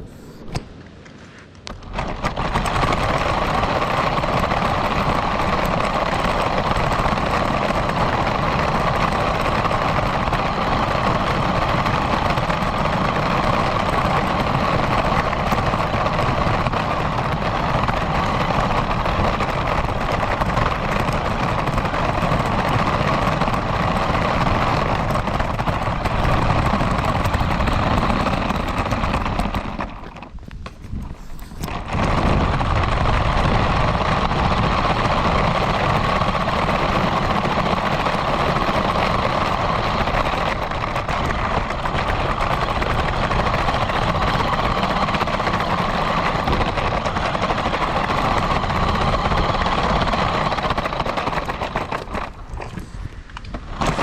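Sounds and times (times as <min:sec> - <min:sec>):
radio-controlled car motor: 0:01.8 - 0:54.0.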